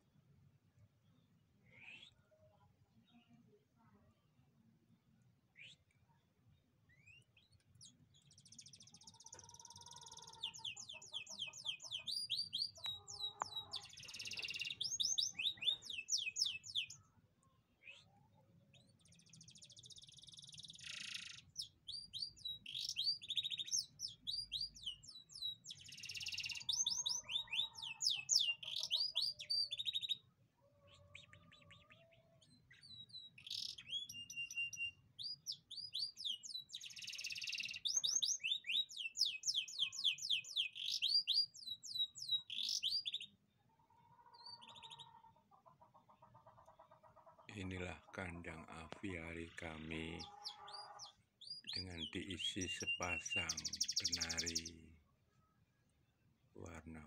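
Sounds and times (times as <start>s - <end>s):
canary singing trills: 6.9s - 17.2s, 17.8s - 54.8s.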